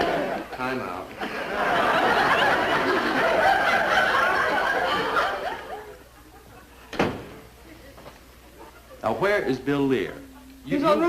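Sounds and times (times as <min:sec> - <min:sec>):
audience laughter: 0:00.0 - 0:09.2.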